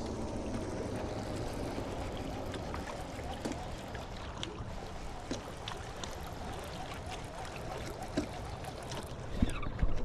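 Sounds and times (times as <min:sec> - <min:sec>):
waves lapping against hull: 0:00.0 - 0:10.0.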